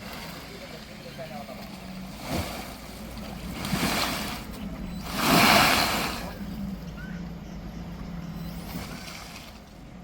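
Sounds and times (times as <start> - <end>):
vehicle moving over rough ground: 0.0 - 10.0.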